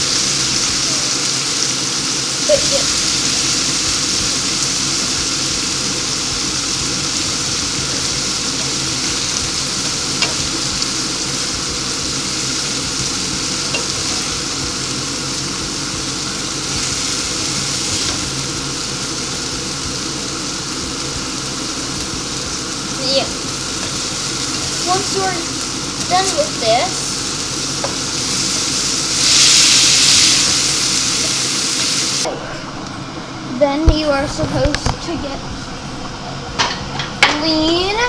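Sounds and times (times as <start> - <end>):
meat frying in a pan: 0.0 - 32.3.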